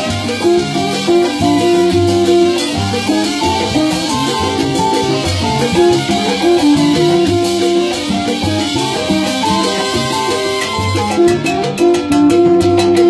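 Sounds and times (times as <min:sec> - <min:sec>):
salsa music: 0:00.0 - 0:13.0.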